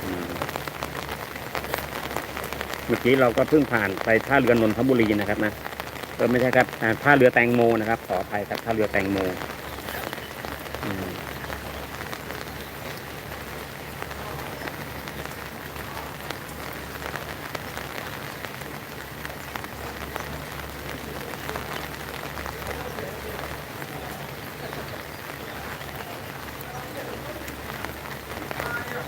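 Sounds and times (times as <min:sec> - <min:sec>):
raindrops ticking near microphone: 0:00.0 - 0:29.0
steady rain falling: 0:00.0 - 0:29.0.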